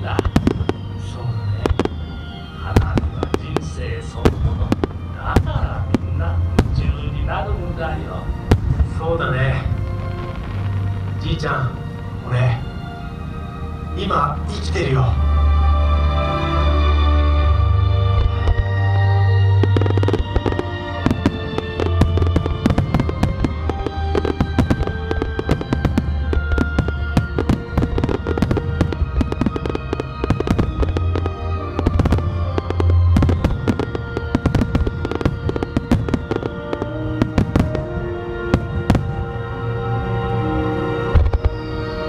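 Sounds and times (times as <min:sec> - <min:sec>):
fireworks bangs: 0:00.0 - 0:11.4, 0:18.0 - 0:39.4, 0:41.0 - 0:42.0
music with steady bass: 0:00.0 - 0:42.0.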